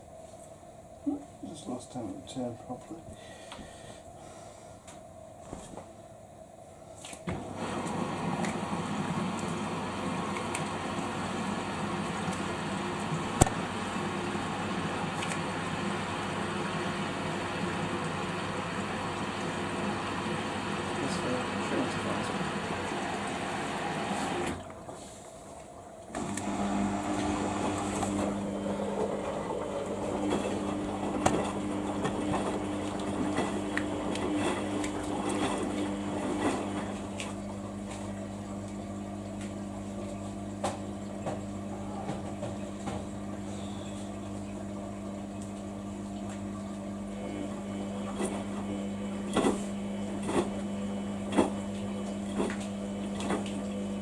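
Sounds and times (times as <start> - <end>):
washing machine hum: 0.0 - 54.0.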